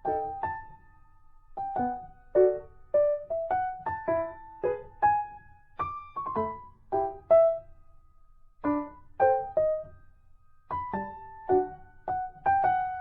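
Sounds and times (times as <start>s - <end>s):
simple keyboard melody: 0.0s - 7.9s, 8.6s - 13.0s.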